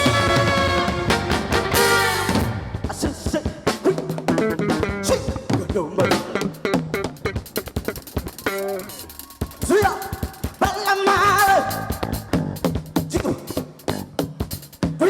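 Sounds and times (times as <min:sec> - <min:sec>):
drum kit: 0:00.0 - 0:15.0.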